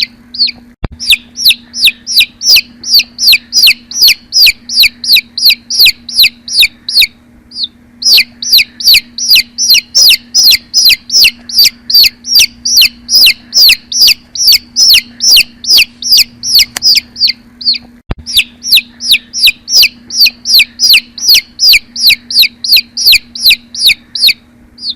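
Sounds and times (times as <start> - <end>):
baby chicks peeping: 0.0 - 24.9
steady low hum: 0.0 - 24.9.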